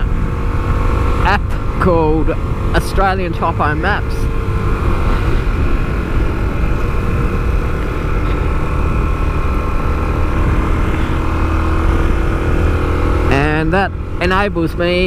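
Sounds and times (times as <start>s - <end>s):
wind rumble on microphone: 0.0s - 14.3s
motorcycle engine running: 0.0s - 15.0s.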